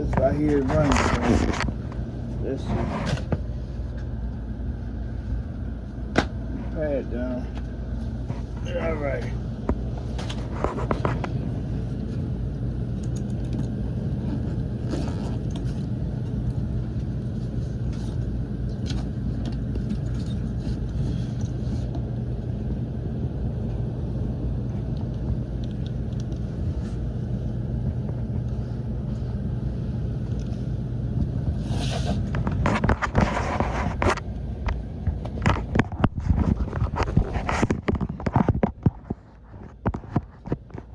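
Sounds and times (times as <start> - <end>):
furnace humming: 0.0 - 40.9.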